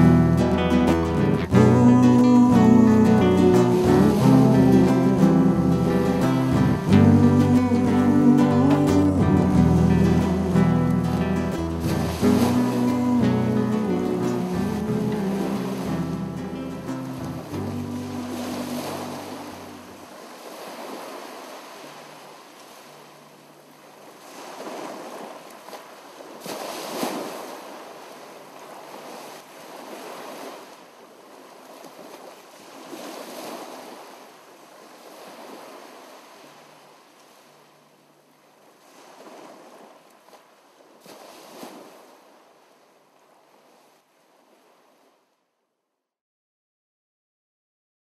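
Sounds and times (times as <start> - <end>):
sea waves washing: 0.0 - 45.1.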